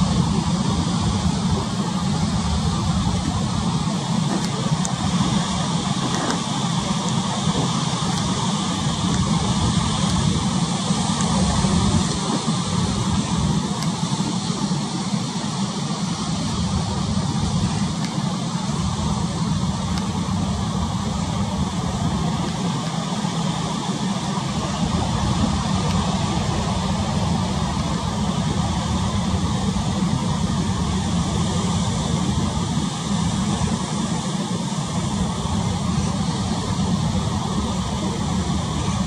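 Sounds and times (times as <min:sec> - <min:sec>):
choppy sea: 0:00.0 - 0:39.0
wind: 0:00.0 - 0:39.0.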